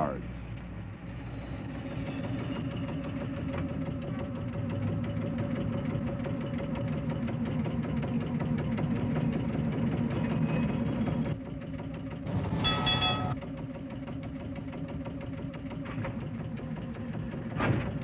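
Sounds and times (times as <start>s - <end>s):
electric rail car hum: 0.0s - 18.0s.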